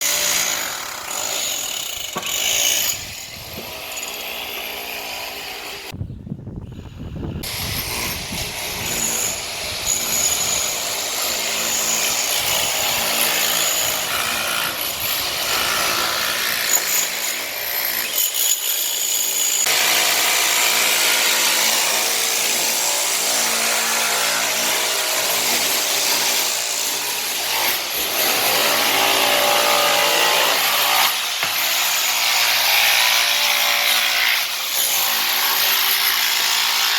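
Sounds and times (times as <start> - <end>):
power tools cutting wood: 0.0 - 5.9, 7.4 - 36.9.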